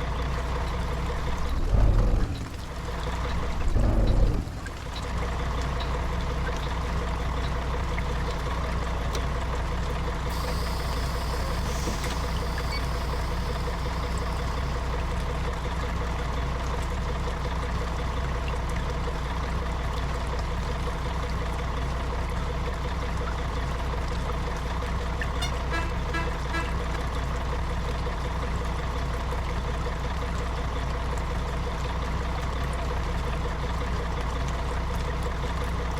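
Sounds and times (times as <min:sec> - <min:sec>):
bus engine and road drone: 0:00.0 - 0:35.9.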